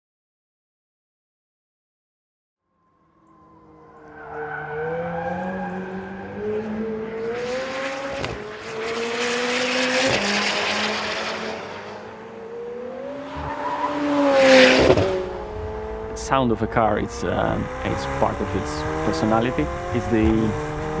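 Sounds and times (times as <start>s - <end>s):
car engine under load: 3.2s - 21.0s.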